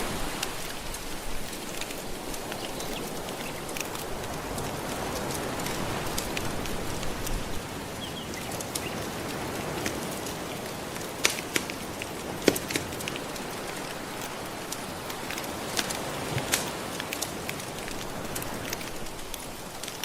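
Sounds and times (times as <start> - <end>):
gentle ocean waves: 0.0 - 20.0
wood fire crackling and popping: 0.0 - 20.0.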